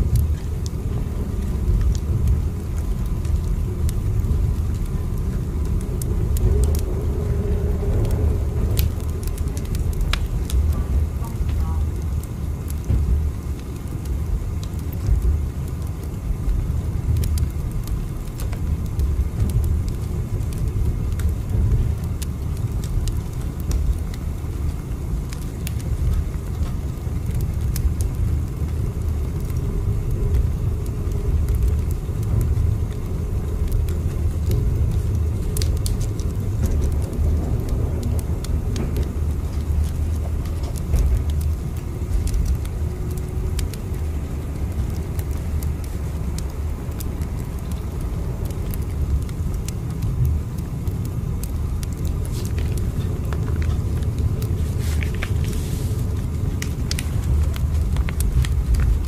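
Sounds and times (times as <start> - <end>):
faint clicks and crackles: 0.0 - 59.0
moving train rumble: 0.0 - 59.0.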